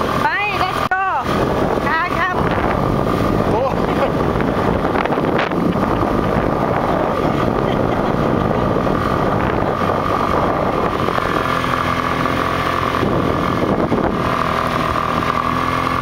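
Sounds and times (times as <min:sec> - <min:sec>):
motorcycle engine running: 0:00.0 - 0:16.0
wind noise on microphone: 0:00.0 - 0:16.0.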